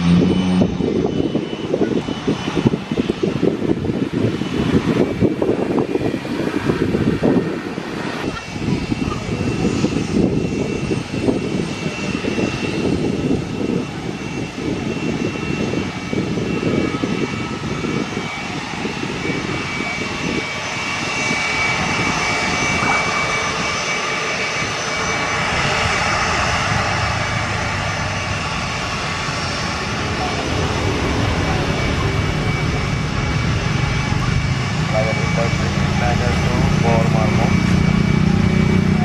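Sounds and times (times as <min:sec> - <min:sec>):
jet engines high whine: 0:00.0 - 0:39.0.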